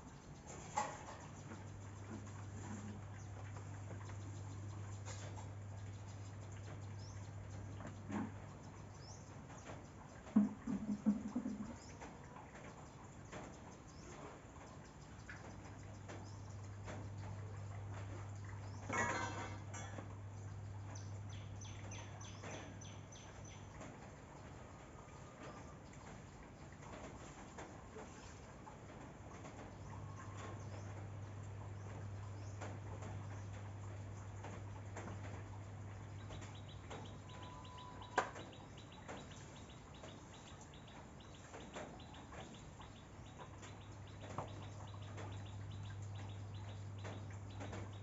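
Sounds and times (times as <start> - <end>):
faint birds chirping: 0.0 - 48.0.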